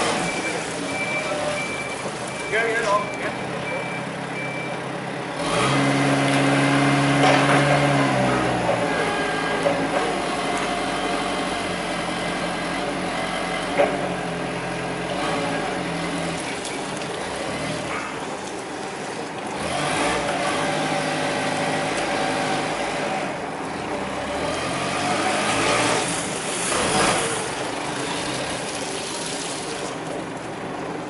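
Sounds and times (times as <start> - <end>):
forklift diesel engine revving: 0.0 - 16.5, 19.6 - 28.7.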